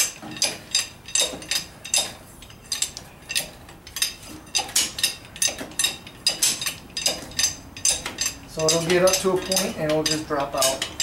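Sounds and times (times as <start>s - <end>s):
bottle jack pumping clinks: 0.0s - 11.0s.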